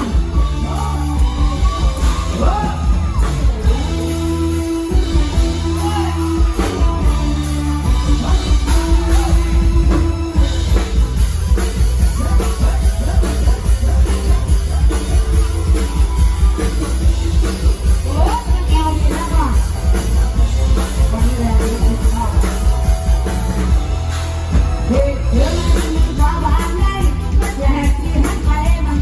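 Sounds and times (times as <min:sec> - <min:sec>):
person singing: 0:00.0 - 0:10.9, 0:12.0 - 0:23.1, 0:24.8 - 0:29.0
drum kit: 0:00.0 - 0:29.0
electric guitar: 0:00.0 - 0:29.0
heavy bass: 0:00.0 - 0:29.0
live band playing: 0:00.0 - 0:29.0.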